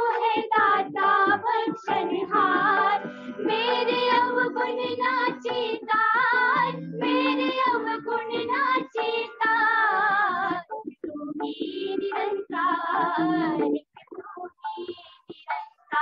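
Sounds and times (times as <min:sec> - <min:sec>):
person singing devotional song: 0:00.0 - 0:13.8
musical accompaniment: 0:00.0 - 0:15.8.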